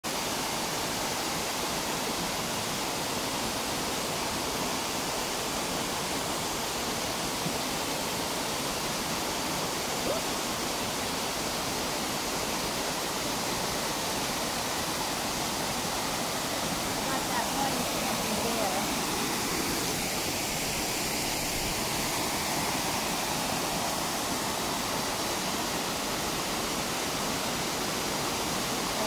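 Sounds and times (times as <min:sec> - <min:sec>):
waterfall rushing over rocks: 0:00.1 - 0:29.0.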